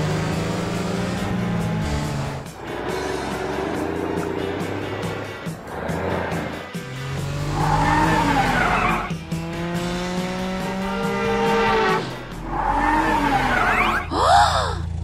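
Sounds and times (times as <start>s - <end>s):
cartoon tyres screeching: 0.0s - 9.3s, 10.6s - 15.0s
background music: 0.0s - 15.0s
engine revving up: 0.0s - 15.0s.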